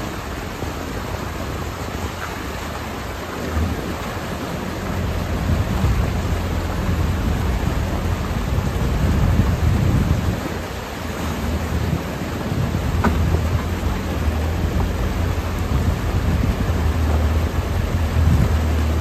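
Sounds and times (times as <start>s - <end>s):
excavator diesel engine hum: 0.0s - 19.0s
water rushing and splashing: 0.0s - 19.0s.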